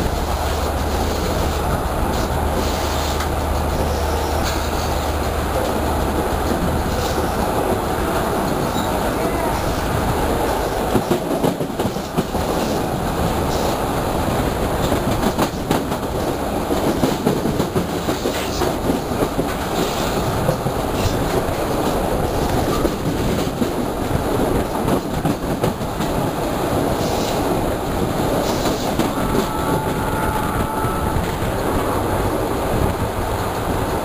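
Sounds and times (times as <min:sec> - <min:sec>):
train rolling rumble: 0:00.0 - 0:34.0.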